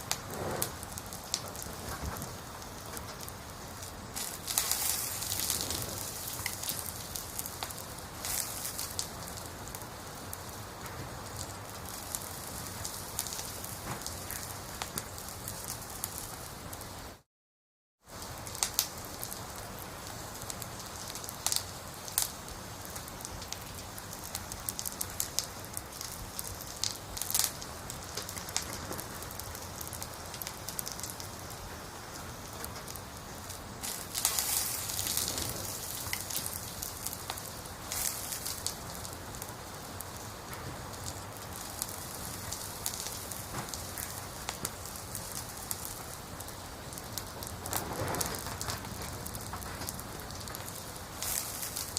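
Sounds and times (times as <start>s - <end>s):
steady rain: 0.0s - 17.2s, 18.1s - 51.9s.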